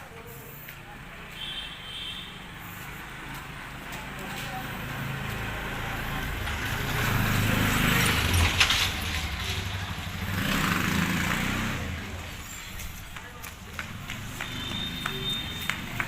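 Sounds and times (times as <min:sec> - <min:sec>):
road noise: 0:00.0 - 0:16.0
vehicle engine humming: 0:02.5 - 0:16.0.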